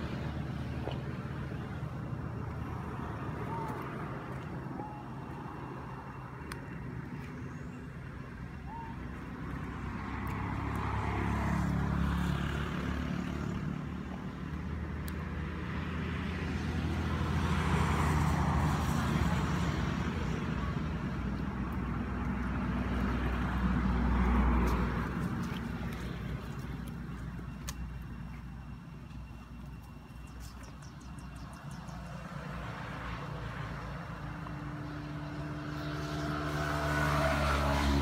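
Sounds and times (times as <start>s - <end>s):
vehicles passing on road: 0.0s - 38.0s.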